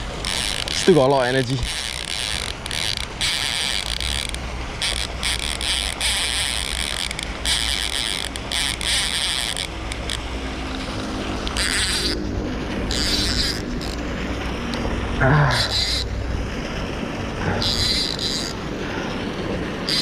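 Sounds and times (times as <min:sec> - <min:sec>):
fishing reel drag buzzing: 0:00.0 - 0:16.2, 0:17.4 - 0:19.1.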